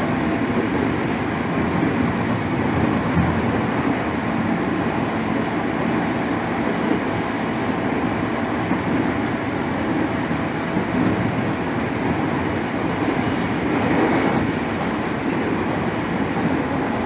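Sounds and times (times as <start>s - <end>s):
wheels on rail: 0.0s - 17.0s.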